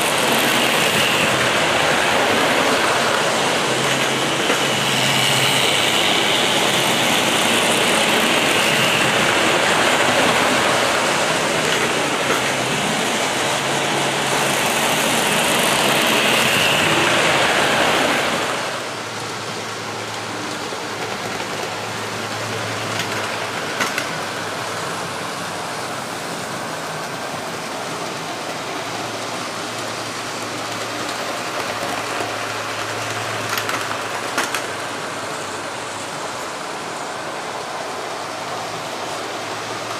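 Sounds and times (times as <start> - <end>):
model trains whirring on rails: 0.0 - 39.9.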